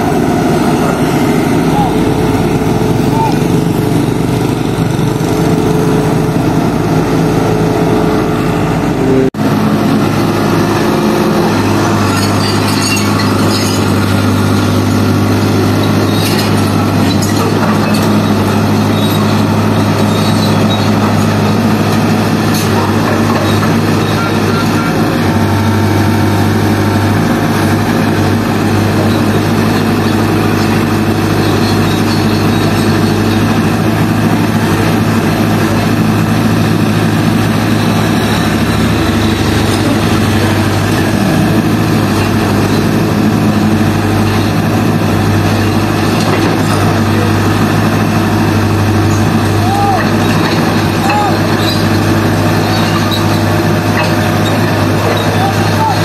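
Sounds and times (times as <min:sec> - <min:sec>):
diesel machine drone: 0:00.0 - 0:56.0.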